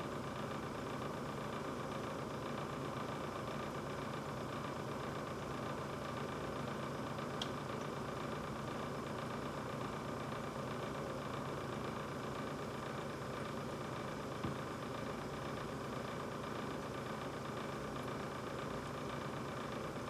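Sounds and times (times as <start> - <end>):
refrigerator humming: 0.0 - 20.0.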